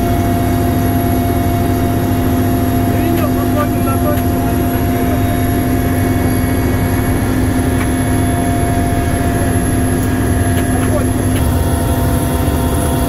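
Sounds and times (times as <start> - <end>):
constant whine: 0.0 - 13.0
helicopter rotor and engine rumble: 0.0 - 13.0.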